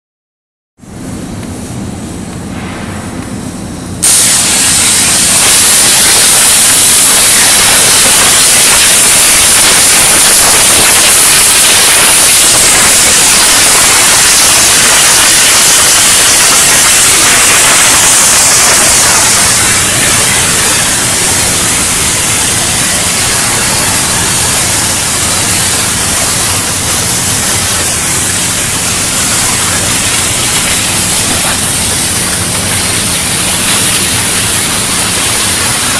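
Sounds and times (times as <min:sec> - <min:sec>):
cutting torch hissing: 0:04.0 - 0:35.9.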